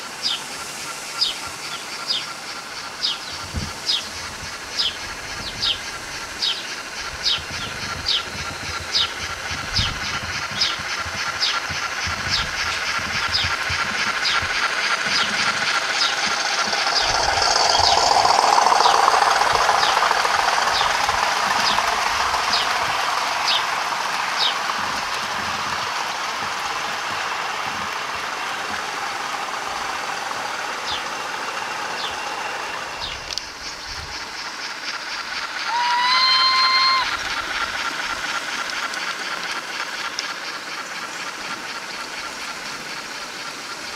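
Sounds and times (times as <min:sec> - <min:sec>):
model train wheels and motor rumbling: 0:00.0 - 0:43.9.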